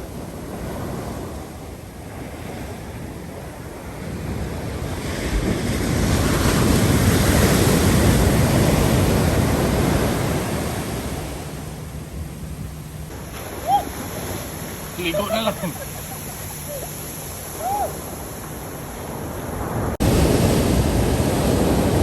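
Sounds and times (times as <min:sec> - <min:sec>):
surf waves breaking: 0:00.0 - 0:22.0.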